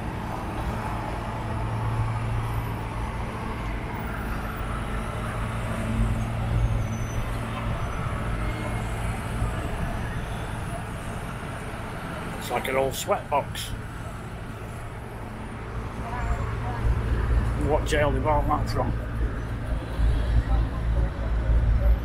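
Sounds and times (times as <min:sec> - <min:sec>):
street traffic noise: 0:00.0 - 0:22.0.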